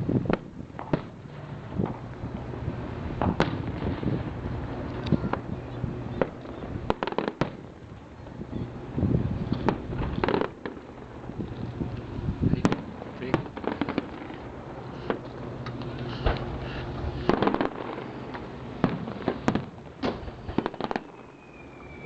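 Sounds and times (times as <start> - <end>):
low rumble: 0.0 - 20.6
fireworks bangs and pops: 0.0 - 22.0.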